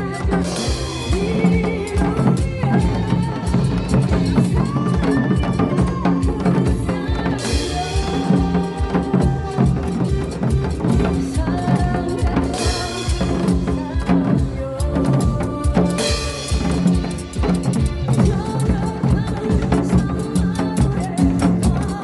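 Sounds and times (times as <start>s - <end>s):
hourglass drum beat: 0.0s - 22.0s.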